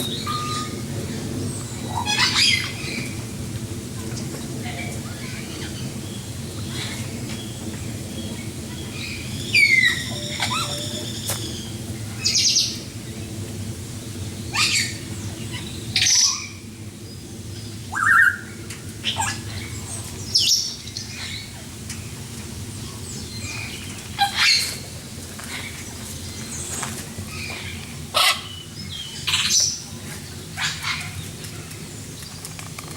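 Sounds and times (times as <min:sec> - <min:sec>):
birds calling and squawking: 0:00.0 - 0:03.2, 0:04.1 - 0:12.9, 0:14.1 - 0:16.7, 0:17.7 - 0:21.7, 0:22.8 - 0:32.9
low background hum: 0:00.0 - 0:32.9.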